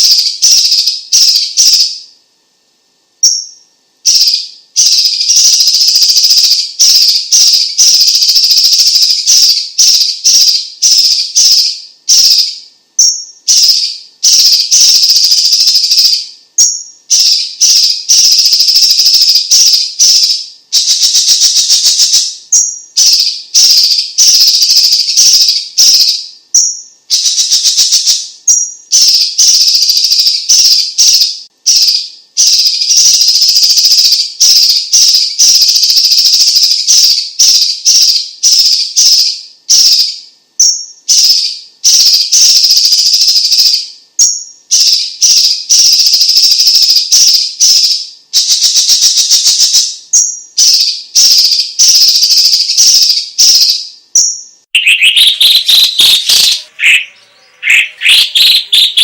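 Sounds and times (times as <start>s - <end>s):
bird singing chattering song: 0.0s - 2.2s, 3.2s - 59.0s
bird whistled notes: 3.2s - 59.0s.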